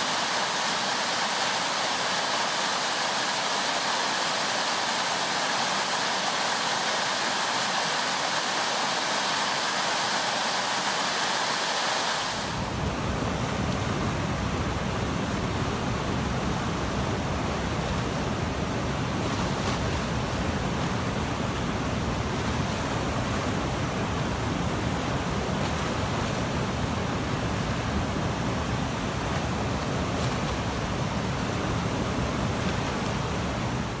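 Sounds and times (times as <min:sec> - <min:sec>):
river rapids rumbling: 0:00.0 - 0:34.0.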